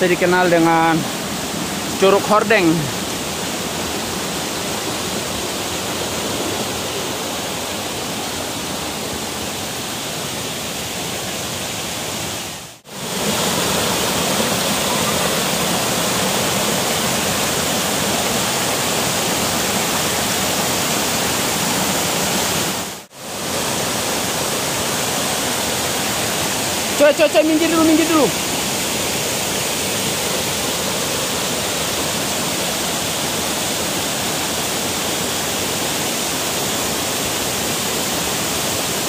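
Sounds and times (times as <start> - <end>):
waterfall rushing water: 0.0 - 39.0.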